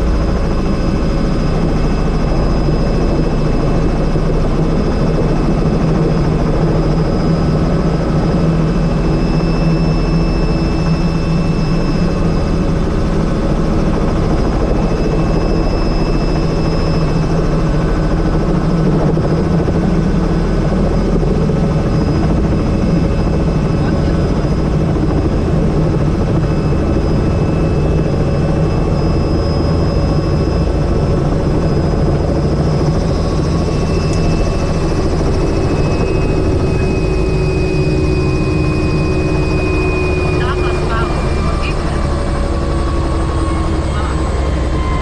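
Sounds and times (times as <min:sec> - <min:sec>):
helicopter rotor and engine: 0:00.0 - 0:45.0
high-pitched whine: 0:00.0 - 0:45.0.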